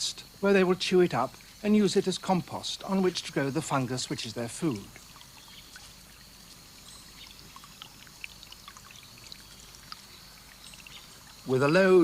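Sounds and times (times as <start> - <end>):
small stream trickling: 0.0 - 12.0
water drips and ticks: 0.2 - 12.0.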